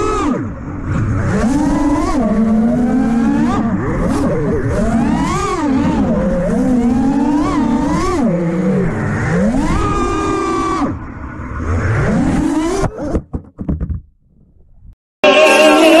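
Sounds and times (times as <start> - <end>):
drone motors and propellers whining: 0.0 - 13.3, 15.2 - 16.0.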